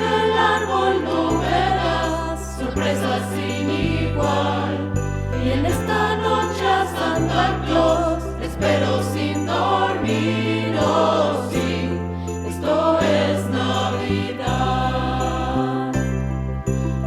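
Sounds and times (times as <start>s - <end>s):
choir with instruments: 0.0s - 17.0s
sustained bass notes: 0.0s - 17.0s.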